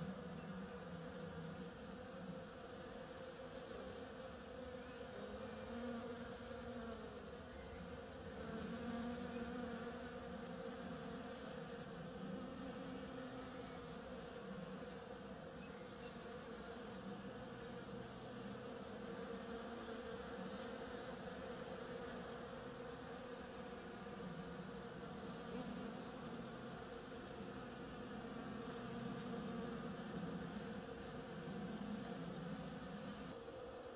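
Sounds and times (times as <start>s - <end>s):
bees buzzing: 0.0s - 33.9s.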